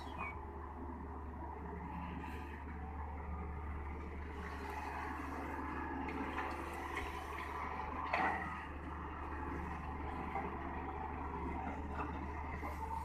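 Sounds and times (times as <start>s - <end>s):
heavy diesel machinery engine drone: 0.0s - 13.0s.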